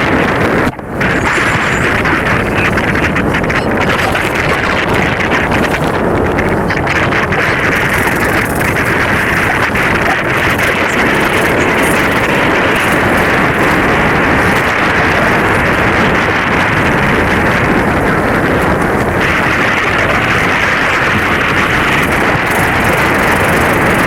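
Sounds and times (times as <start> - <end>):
water rushing along hulls: 0.0 - 24.0
wind rushing over microphone: 0.0 - 24.0.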